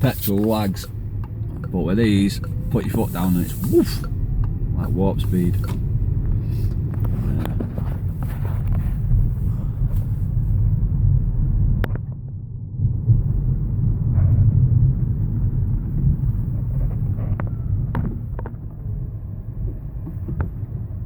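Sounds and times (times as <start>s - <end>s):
road and tyre rumble in car: 0.0s - 21.0s.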